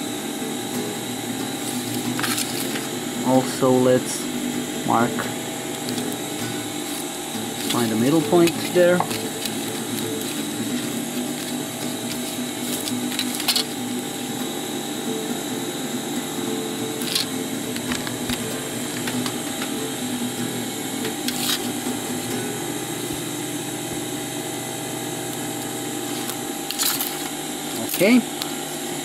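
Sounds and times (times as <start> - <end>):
machine hum with high whine: 0.0 - 29.0.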